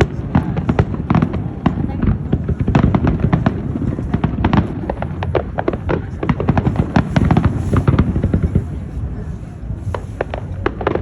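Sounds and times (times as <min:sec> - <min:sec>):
deep rumble of bursting shells: 0:00.0 - 0:11.0
fireworks cracks and bangs: 0:00.0 - 0:11.0.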